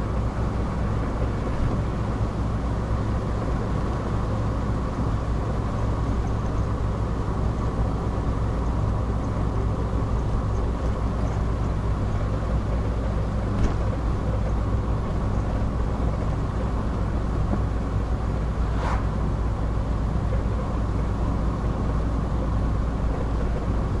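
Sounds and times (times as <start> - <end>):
car engine and tyre drone: 0.0 - 24.0.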